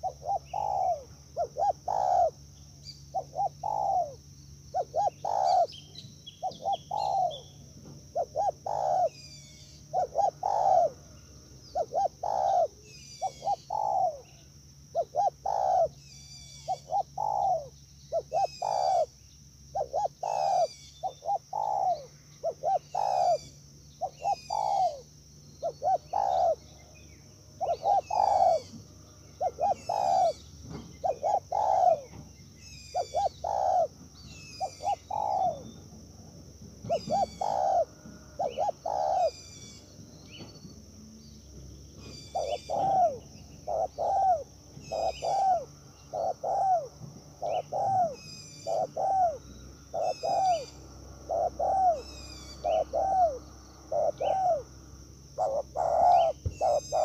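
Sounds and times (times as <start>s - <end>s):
doves cooing: 0.0s - 57.0s
small birds chirping: 0.0s - 57.0s.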